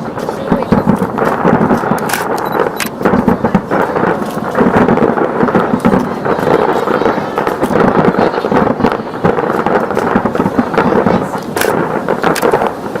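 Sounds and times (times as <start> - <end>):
fireworks bursting and crackling: 0.0 - 13.0
sharp firework cracks: 0.0 - 13.0.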